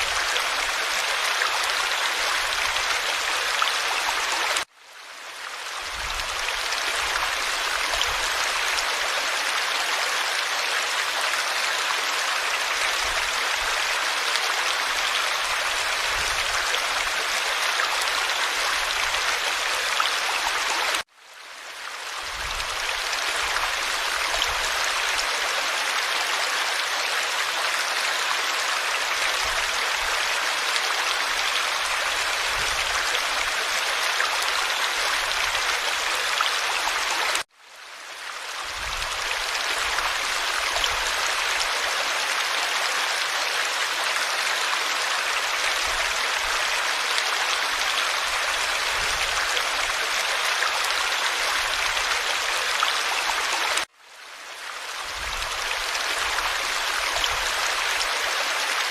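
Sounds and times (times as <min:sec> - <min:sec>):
forest stream flowing: 0:00.0 - 0:58.9.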